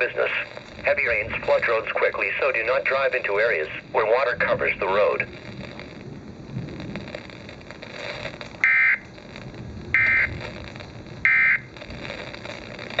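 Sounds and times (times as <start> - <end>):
digital data bursts: 0.0 - 13.0
faint radio static: 0.0 - 13.0.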